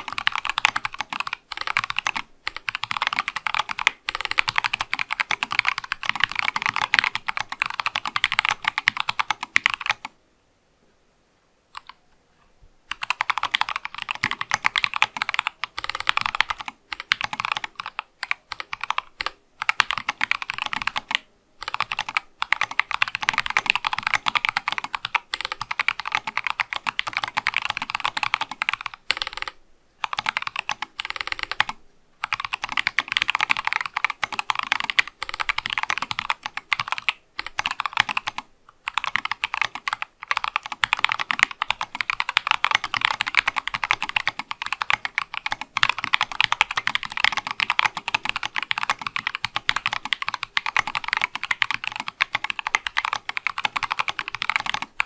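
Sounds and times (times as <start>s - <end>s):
rapid mechanical keyboard typing: 0.0s - 10.1s, 11.8s - 12.0s, 12.9s - 55.0s.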